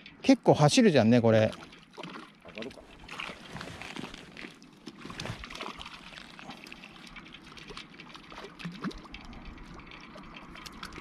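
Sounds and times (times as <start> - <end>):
fish splashing at water surface: 1.5 - 11.0.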